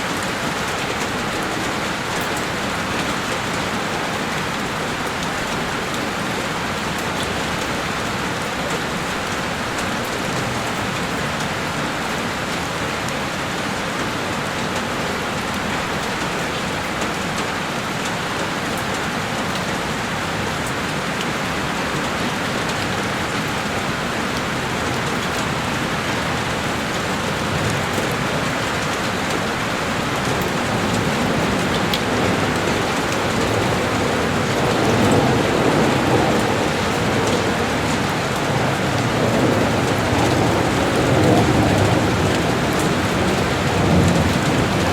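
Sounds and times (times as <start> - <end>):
heavy rain on a window: 0.0 - 44.9.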